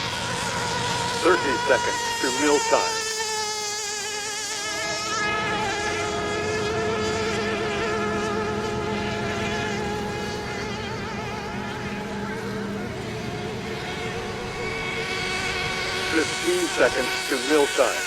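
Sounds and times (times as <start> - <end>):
model boat engines whining: 0.0 - 18.0.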